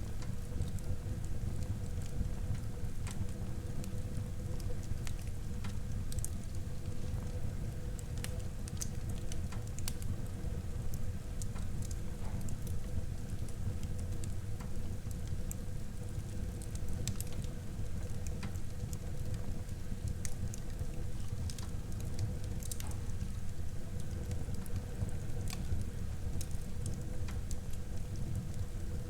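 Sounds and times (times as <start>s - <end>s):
low rumble of flames: 0.0s - 29.0s
wood crackling and popping: 0.1s - 10.3s, 10.9s - 28.8s.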